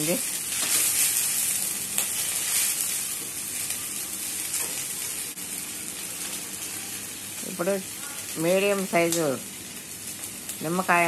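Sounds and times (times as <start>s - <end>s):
oil sizzling with leaves frying: 0.0s - 11.0s.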